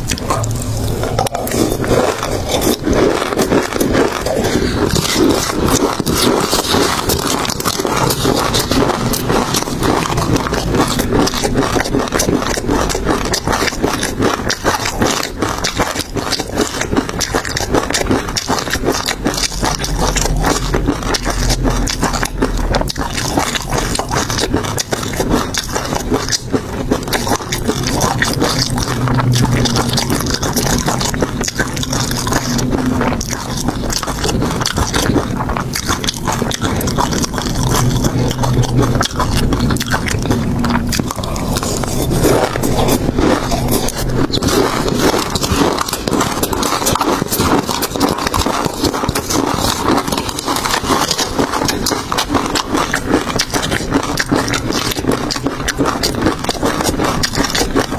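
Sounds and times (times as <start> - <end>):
chewing and crunching seafood: 0.0 - 57.9.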